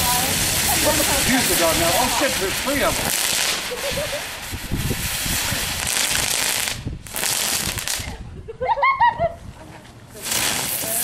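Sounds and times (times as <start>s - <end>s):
firework fountain hissing: 0.0s - 8.2s, 10.1s - 11.0s.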